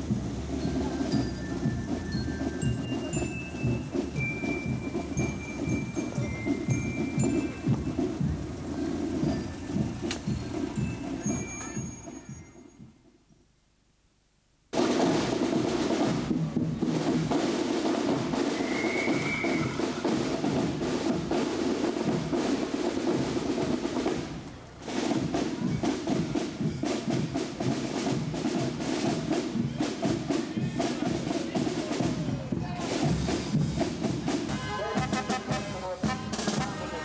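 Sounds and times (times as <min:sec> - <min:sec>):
marching band drumming: 0:00.0 - 0:13.0, 0:14.7 - 0:37.0.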